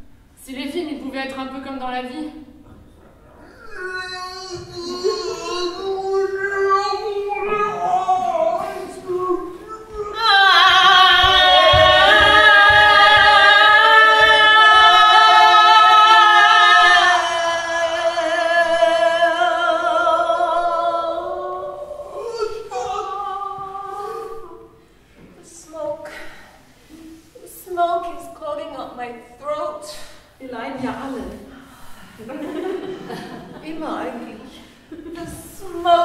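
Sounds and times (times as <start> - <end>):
women singing with vibrato: 3.8 - 31.6, 32.9 - 36.0.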